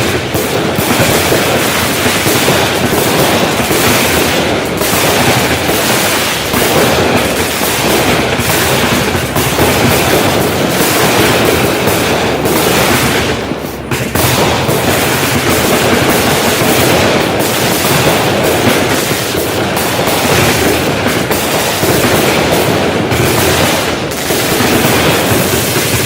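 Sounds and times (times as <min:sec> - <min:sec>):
firework popping and crackling: 0:00.0 - 0:26.0.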